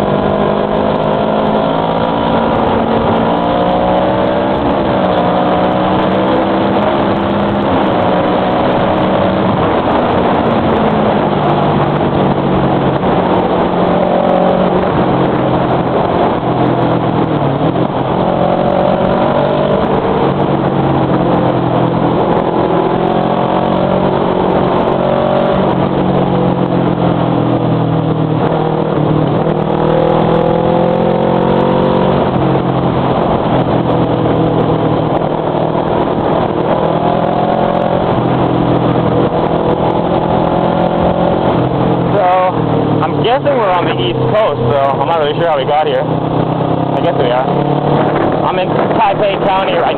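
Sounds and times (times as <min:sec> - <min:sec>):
motorcycle engine revving: 0:00.0 - 0:49.9
steady rush of noise: 0:00.0 - 0:49.9.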